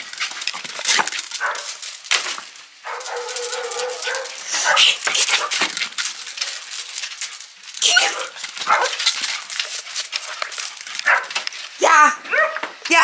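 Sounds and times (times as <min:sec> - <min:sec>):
small clicks and scuffs: 0:00.0 - 0:13.0.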